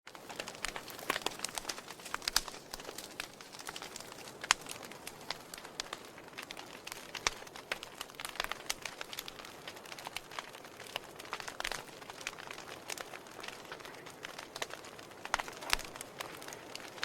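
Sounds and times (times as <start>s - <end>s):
wood fire crackling and popping: 0.1s - 17.0s.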